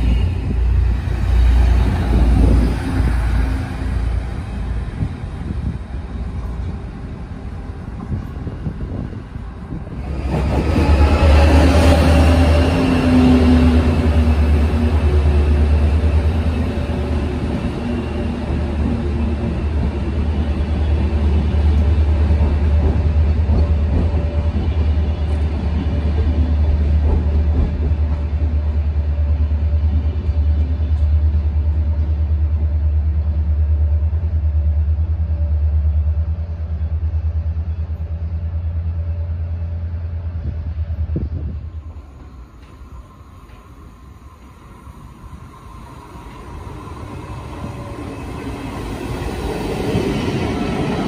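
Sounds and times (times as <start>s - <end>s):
train rumbling past: 0.0s - 51.0s.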